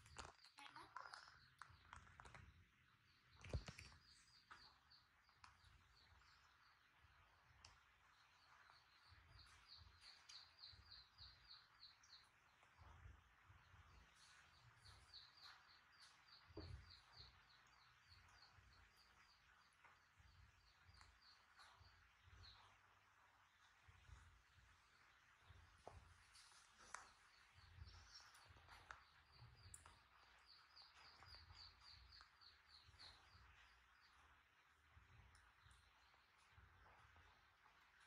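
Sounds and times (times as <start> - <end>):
faint bird chirping: 0.0 - 38.0.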